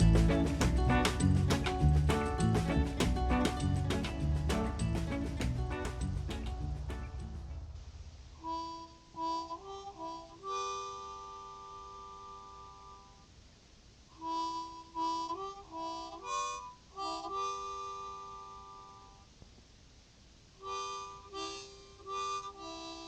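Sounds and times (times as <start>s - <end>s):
harmonica music: 0.0s - 7.2s, 8.4s - 13.2s, 14.1s - 19.2s, 20.6s - 23.0s.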